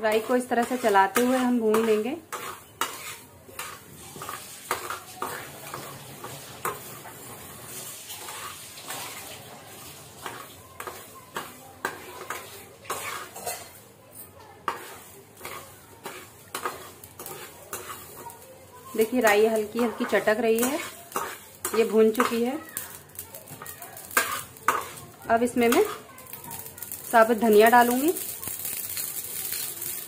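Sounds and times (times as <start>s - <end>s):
seeds rattling in pan: 0.0s - 11.6s, 15.4s - 30.0s
spatula scraping steel pan: 0.1s - 13.8s, 14.6s - 18.4s, 19.0s - 22.9s, 23.5s - 30.0s.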